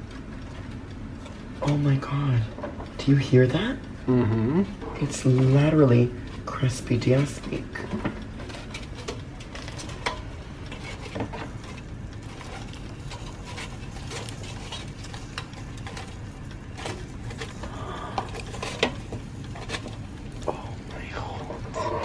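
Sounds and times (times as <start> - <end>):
crisp crust crackling: 0.0 - 22.0
steady low hum: 0.0 - 22.0.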